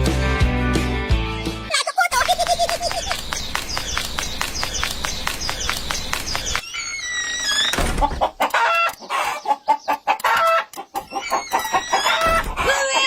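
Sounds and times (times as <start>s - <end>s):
chickens clucking: 2.1s - 13.0s.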